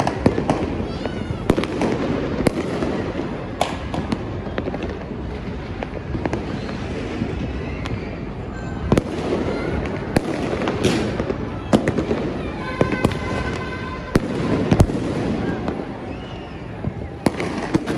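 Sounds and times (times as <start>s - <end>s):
distant fireworks crackling and booming: 0.0s - 17.9s
loud sharp firework bangs: 0.0s - 17.9s.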